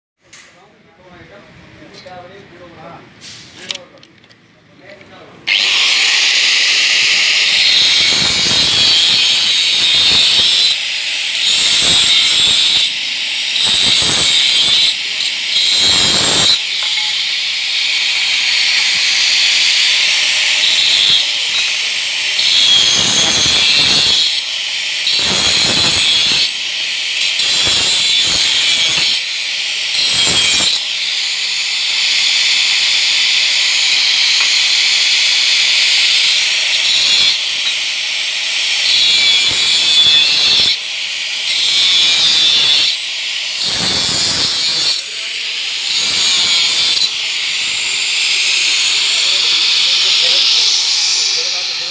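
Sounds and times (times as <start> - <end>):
angle grinder whining: 5.5 - 51.9
grinder disc cutting metal: 5.5 - 51.9.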